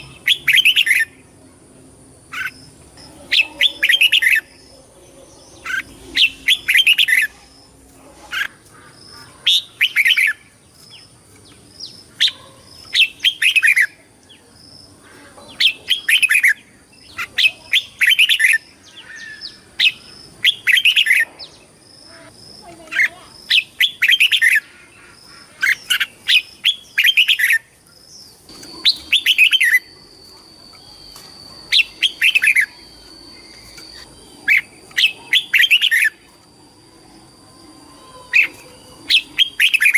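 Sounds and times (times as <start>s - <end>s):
bird warbling song: 0.0s - 1.2s, 2.3s - 36.4s, 37.6s - 39.9s.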